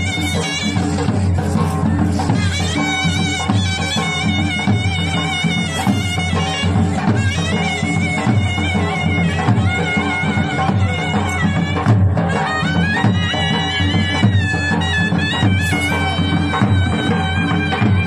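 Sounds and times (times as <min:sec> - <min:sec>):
drums beating: 0:00.0 - 0:18.0.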